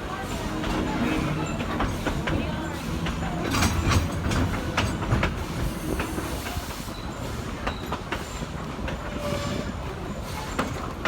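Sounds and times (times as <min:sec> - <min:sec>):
rail joint clicks: 0:00.0 - 0:11.0
wheels rumbling on track: 0:00.0 - 0:11.0.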